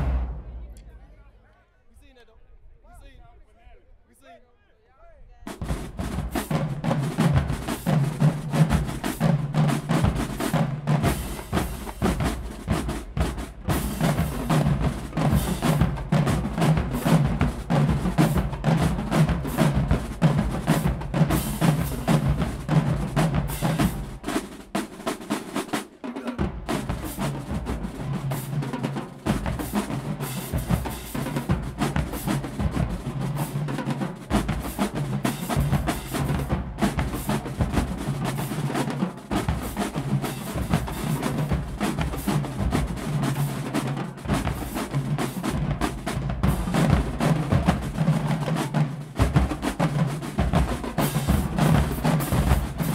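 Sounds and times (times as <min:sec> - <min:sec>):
bass drums: 0:00.0 - 0:01.2, 0:05.5 - 0:24.8, 0:26.4 - 0:52.9
snare drums: 0:00.0 - 0:01.6, 0:05.4 - 0:52.9
tenor drums: 0:00.0 - 0:01.6, 0:05.4 - 0:52.9
cymbals: 0:05.5 - 0:52.9.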